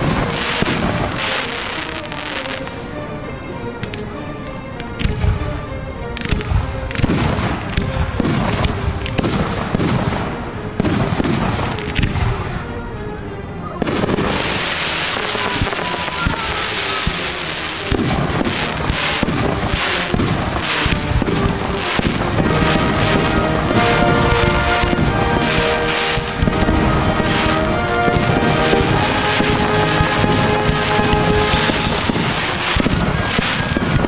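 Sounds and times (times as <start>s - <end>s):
fireworks booming: 0.0s - 2.8s, 6.2s - 12.5s, 13.8s - 34.0s.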